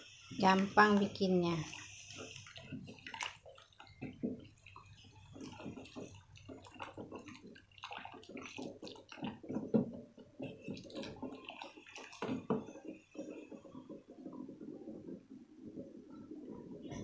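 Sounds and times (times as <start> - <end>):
spatula sloshing and scraping pot: 1.2 - 17.0.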